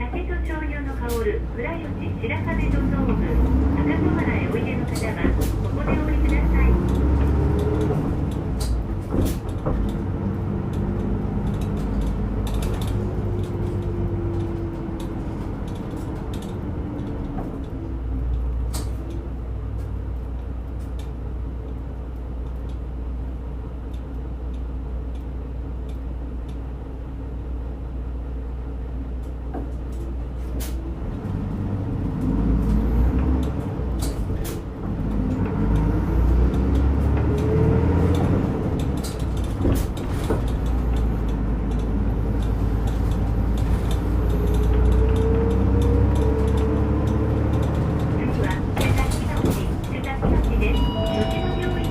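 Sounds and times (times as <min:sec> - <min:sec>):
bus diesel engine rumble: 0:00.0 - 0:51.9
bus body clicks and rattles: 0:03.4 - 0:27.2, 0:28.8 - 0:50.8.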